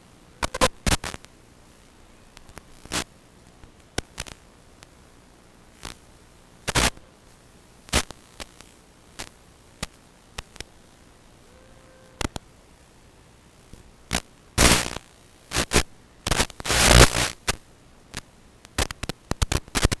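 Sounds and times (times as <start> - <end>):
static crackles: 0.0 - 20.0.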